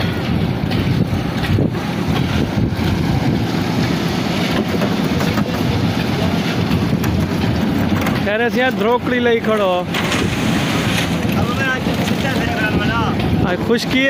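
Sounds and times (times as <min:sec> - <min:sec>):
machinery low drone: 0:00.0 - 0:13.9.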